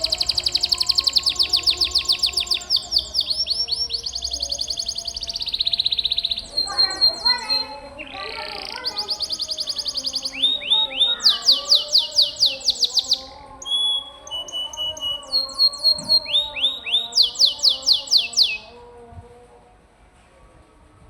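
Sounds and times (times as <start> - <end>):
canary singing trills: 0.0 - 18.8.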